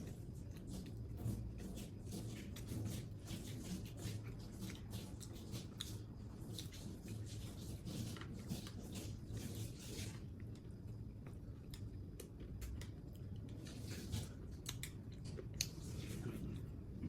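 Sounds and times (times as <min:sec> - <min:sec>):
person chewing food: 0:02.2 - 0:17.0.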